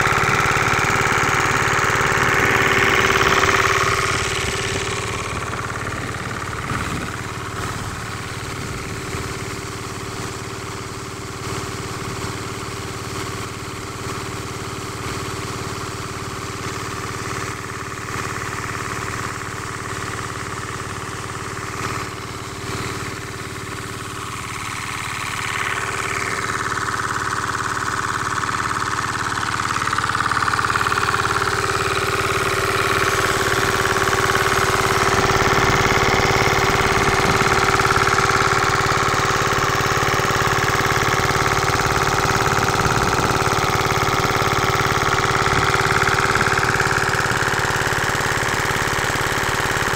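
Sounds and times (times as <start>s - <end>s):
diesel water pump running: 0.0s - 49.9s.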